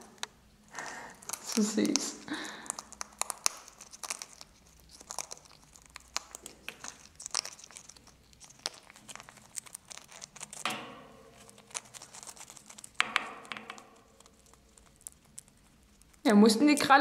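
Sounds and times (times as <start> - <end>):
parrot crunching pretzel: 0.0 - 16.3.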